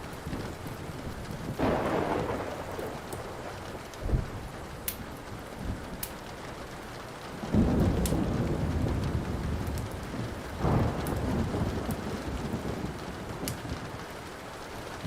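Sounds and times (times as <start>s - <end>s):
thunder rolling: 0.0s - 6.1s, 7.3s - 14.1s
steady rain: 0.0s - 15.0s
wood fire crackling: 0.0s - 15.0s.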